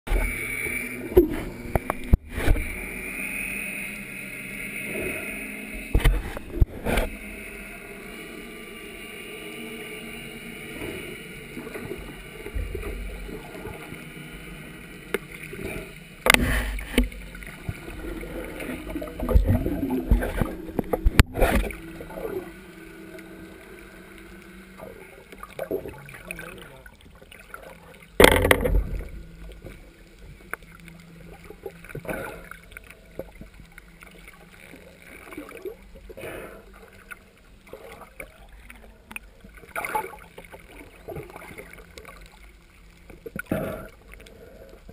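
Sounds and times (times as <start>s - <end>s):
steady underwater hum: 0.1s - 44.9s.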